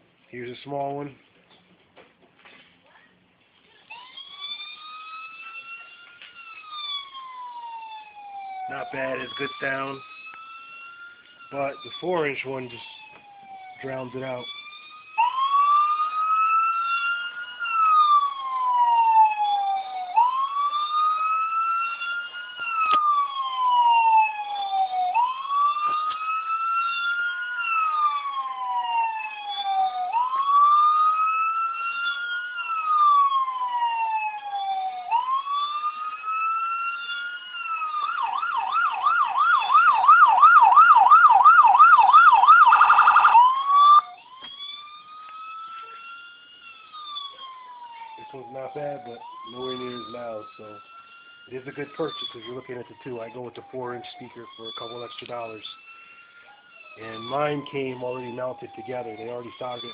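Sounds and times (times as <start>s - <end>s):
electronic police siren: 3.6s - 59.9s.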